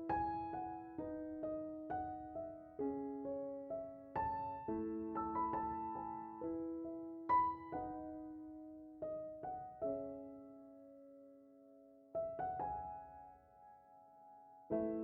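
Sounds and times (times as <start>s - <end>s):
gentle solo piano melody: 0.0s - 15.0s.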